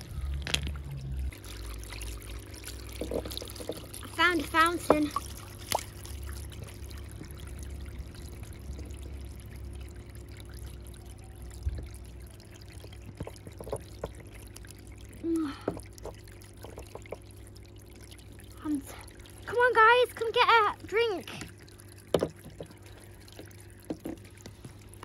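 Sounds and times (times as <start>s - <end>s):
water fountain trickling: 0.0s - 25.0s.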